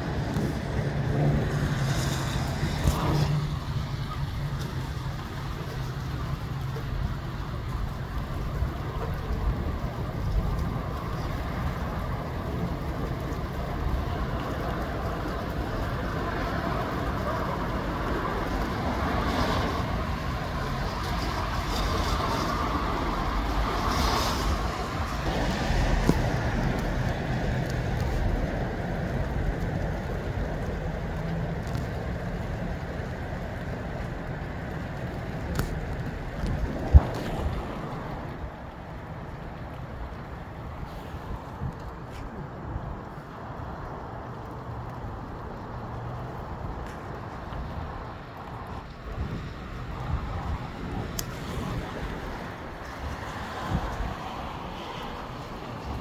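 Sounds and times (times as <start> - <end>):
gusty wind through trees: 0.0 - 56.0.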